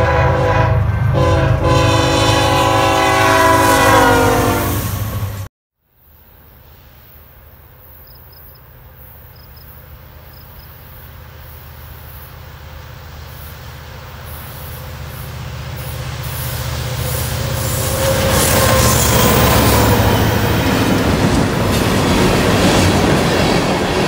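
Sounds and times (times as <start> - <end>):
diesel locomotive engine rumble: 0.0 - 5.5, 6.3 - 24.0.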